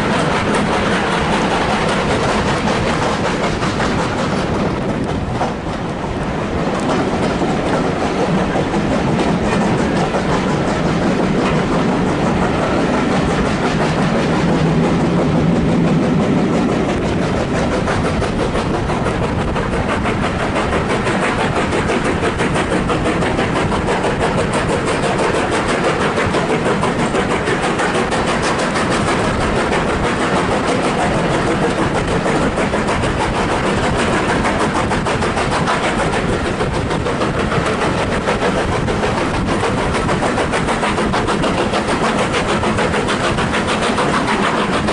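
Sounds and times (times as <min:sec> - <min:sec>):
train wheels clickety-clack: 0:00.0 - 0:44.9.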